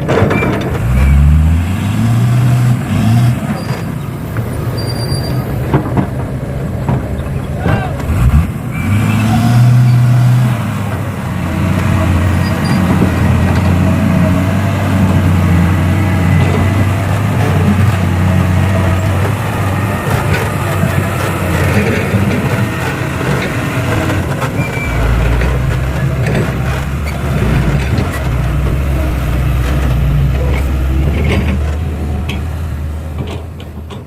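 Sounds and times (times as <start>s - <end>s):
diesel machinery engine running: 0.0s - 34.0s.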